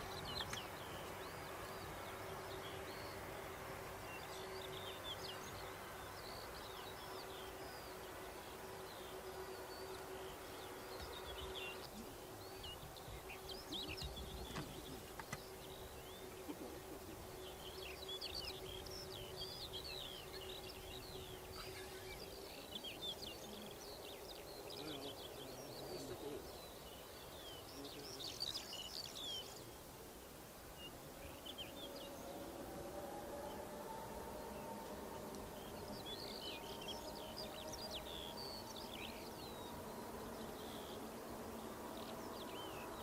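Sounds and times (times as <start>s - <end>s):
low background hum: 0.0s - 43.0s
songbirds chirping: 0.0s - 43.0s.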